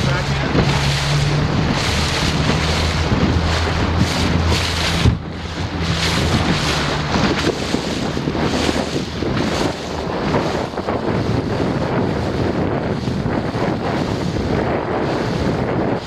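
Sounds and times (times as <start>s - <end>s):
choppy water splashing: 0.0s - 16.0s
wind buffeting microphone: 0.0s - 16.0s.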